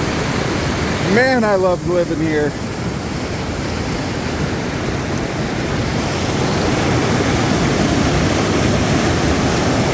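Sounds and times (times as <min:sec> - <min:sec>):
water rushing over rocks: 0:00.0 - 0:09.9.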